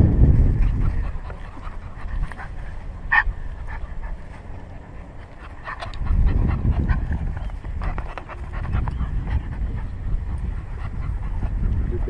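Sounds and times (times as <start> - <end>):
puppy panting: 0.5 - 12.0.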